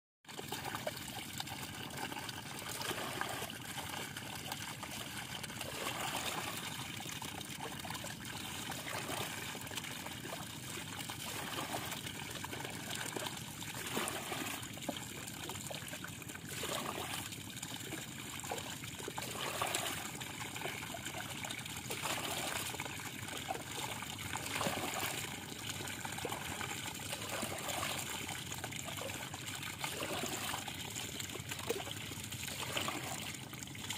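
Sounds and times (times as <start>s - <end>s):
water trickling stream: 0.2s - 33.9s.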